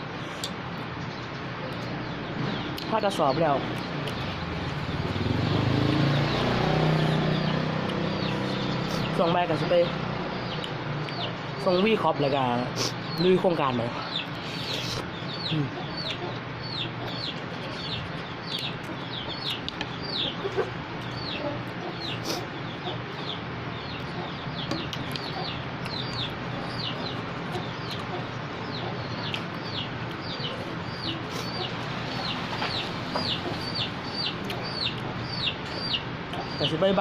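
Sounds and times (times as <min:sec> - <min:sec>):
chicks peeping: 0:00.2 - 0:37.0.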